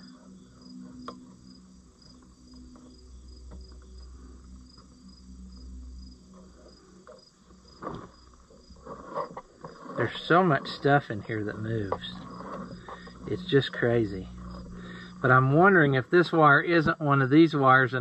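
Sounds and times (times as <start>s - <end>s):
insect chirping: 0.0s - 18.0s
low hum: 0.0s - 18.0s.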